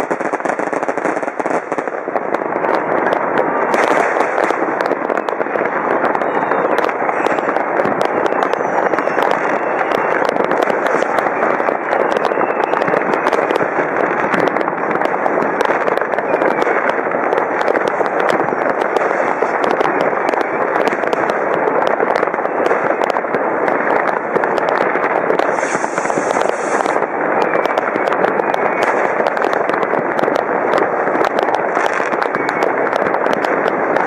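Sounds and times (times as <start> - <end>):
fireworks and firecrackers crackling: 0.0 - 34.0.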